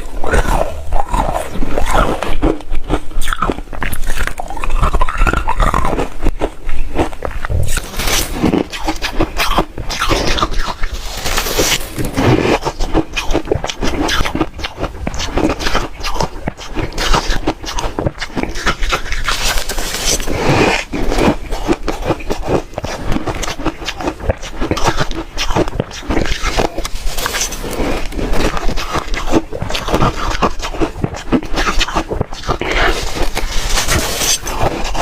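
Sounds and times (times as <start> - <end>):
chewing crunchy ice: 0.0 - 35.0.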